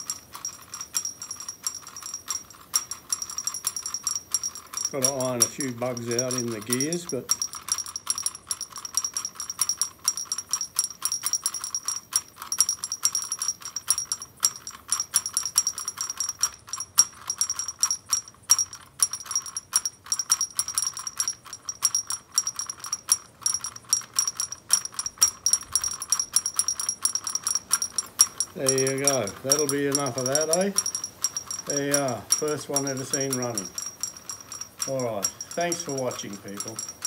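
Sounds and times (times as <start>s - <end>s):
thin high ringing: 0.0s - 37.0s
toy drum metallic taps: 0.0s - 37.0s.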